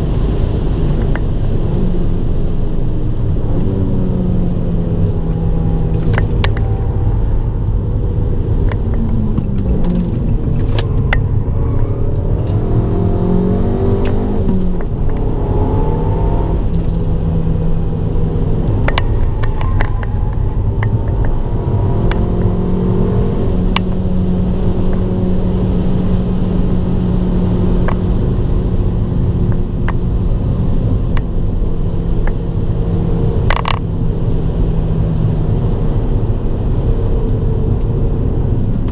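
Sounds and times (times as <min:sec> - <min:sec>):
car engine revving through gears: 0:03.3 - 0:38.9.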